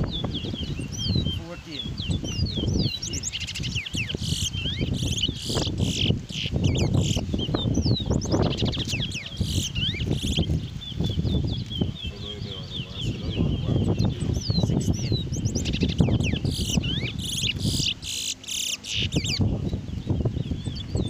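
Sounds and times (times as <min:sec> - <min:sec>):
finch singing: 0:00.0 - 0:21.0.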